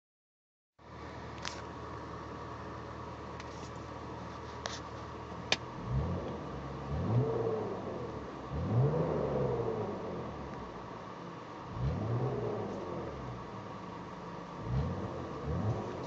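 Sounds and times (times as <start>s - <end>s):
car engine idling and revving: 0.8s - 16.0s.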